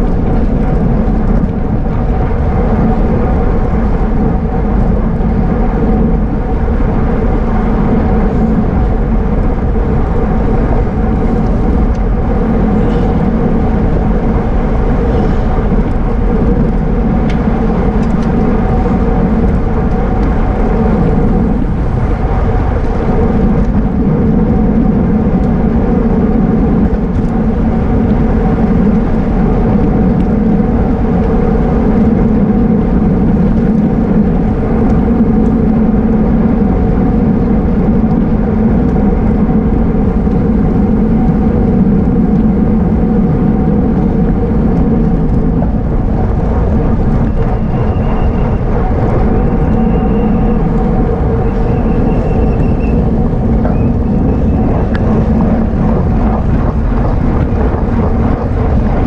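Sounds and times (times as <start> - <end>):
constant hum: 0.0 - 59.0
wind and road noise rush: 0.0 - 59.0.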